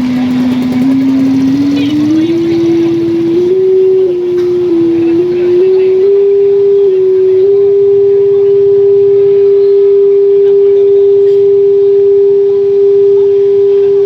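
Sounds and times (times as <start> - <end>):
loud steady test tone: 0.0 - 14.0.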